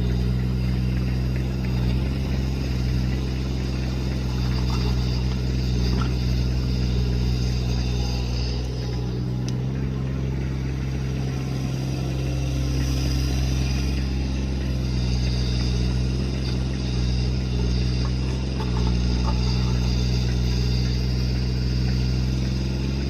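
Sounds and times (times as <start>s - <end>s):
diesel excavator engine running: 0.0s - 23.0s.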